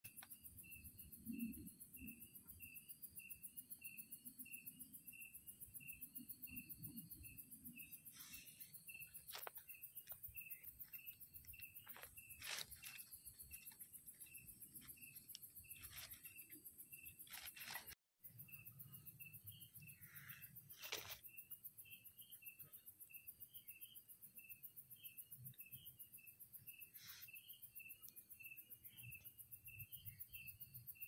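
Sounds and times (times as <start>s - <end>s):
cricket chirping: 0.0s - 31.0s
high-pitched insect buzz: 0.1s - 31.0s.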